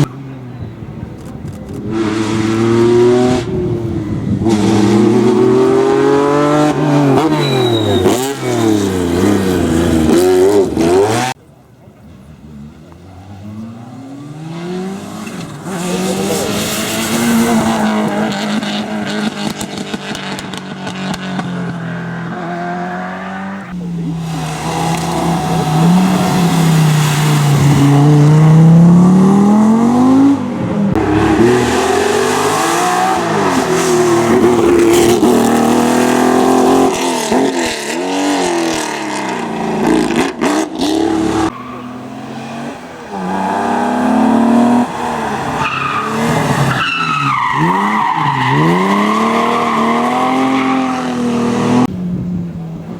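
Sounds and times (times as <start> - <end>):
rally car engines revving and passing: 0.0 - 52.9.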